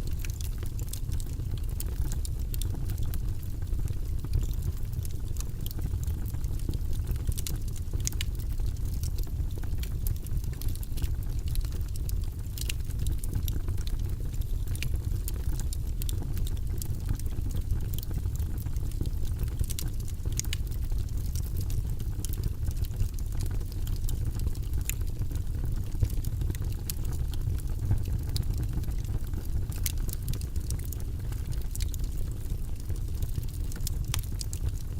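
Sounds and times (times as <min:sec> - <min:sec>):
low fire rumble: 0:00.0 - 0:34.9
wood fire popping and snapping: 0:00.0 - 0:34.9.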